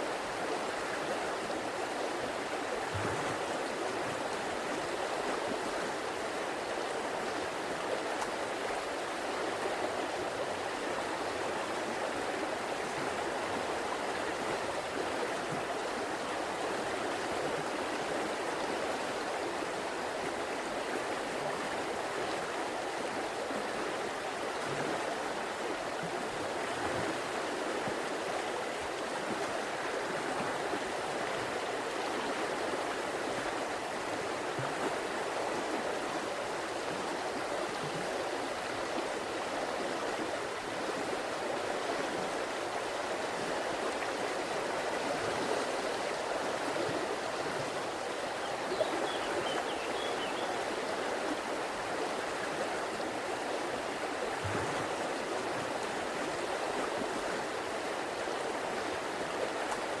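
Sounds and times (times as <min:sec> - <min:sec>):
river water rushing: 0:00.0 - 1:00.0.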